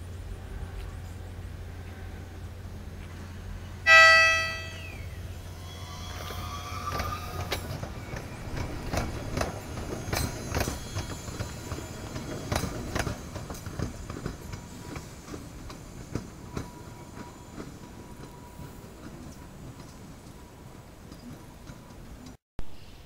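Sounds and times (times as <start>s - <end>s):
train low rumble: 0.0s - 22.4s
train wheels clacking on rails: 2.8s - 22.4s.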